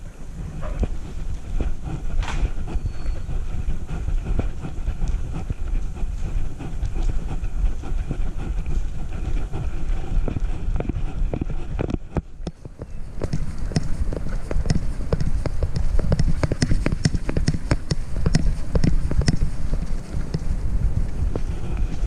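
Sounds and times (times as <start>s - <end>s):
camera rumble and rattle: 0.0s - 22.0s.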